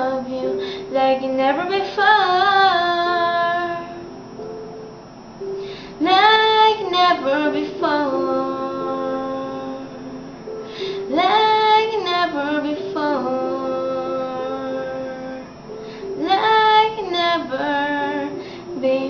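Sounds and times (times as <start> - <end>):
woman singing a slow ballad: 0.0 - 4.1, 6.0 - 10.3, 11.1 - 15.5, 16.2 - 19.0.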